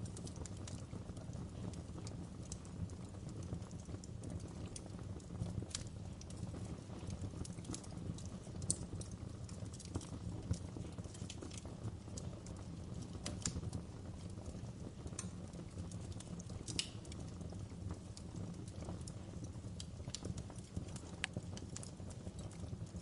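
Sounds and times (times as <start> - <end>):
low rumble of burning logs: 0.0 - 23.0
wood fire crackling: 0.0 - 23.0.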